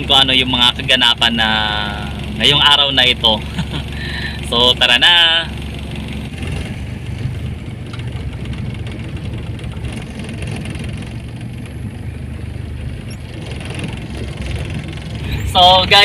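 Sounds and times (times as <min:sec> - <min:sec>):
car engine rumble: 0:00.0 - 0:16.0
tyres on rough dirt road: 0:00.0 - 0:16.0.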